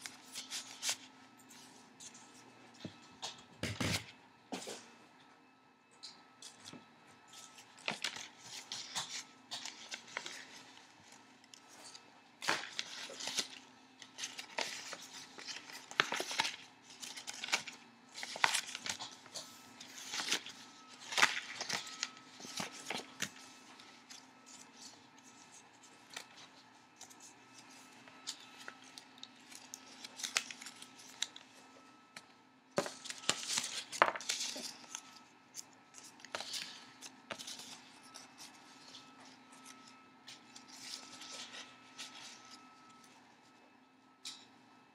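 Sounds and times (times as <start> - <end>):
paper being folded and creased: 0.0 - 4.0, 6.4 - 31.5, 32.8 - 43.2.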